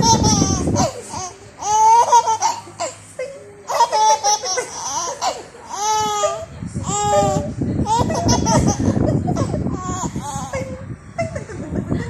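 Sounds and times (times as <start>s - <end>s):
baby laughing: 0.0s - 11.4s.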